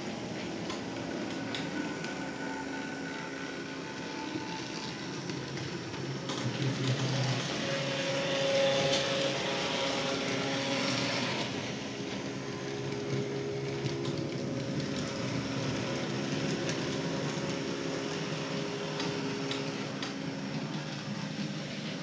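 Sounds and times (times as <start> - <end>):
model tram motors whirring: 0.0 - 22.0.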